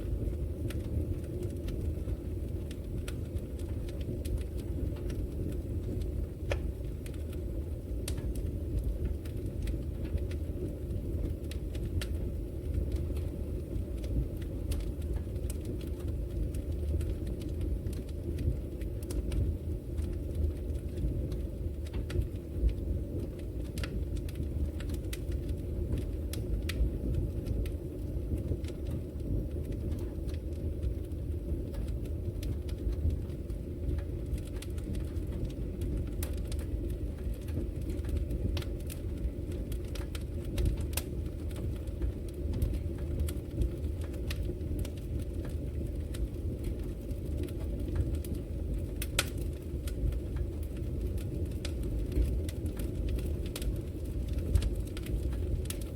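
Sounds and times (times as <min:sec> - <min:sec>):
fire crackles and pops: 0:00.0 - 0:55.9
low rumble of flames: 0:00.0 - 0:55.9.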